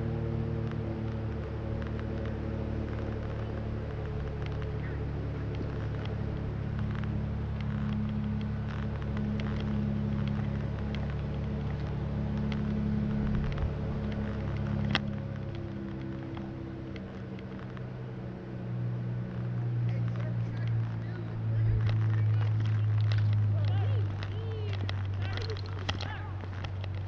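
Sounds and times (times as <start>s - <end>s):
footsteps on pavement: 0.0s - 27.0s
low machine hum: 0.0s - 27.0s.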